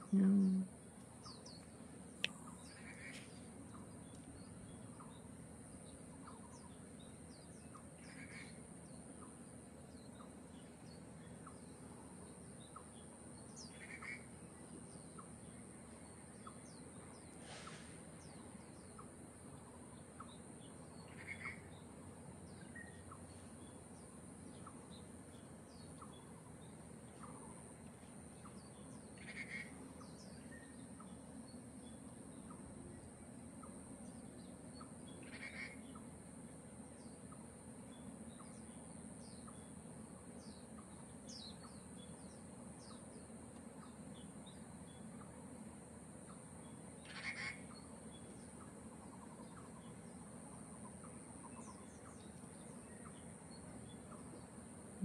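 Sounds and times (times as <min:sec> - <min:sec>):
small birds chirping: 0:00.0 - 0:55.0
steady high-pitched hiss: 0:00.0 - 0:55.0.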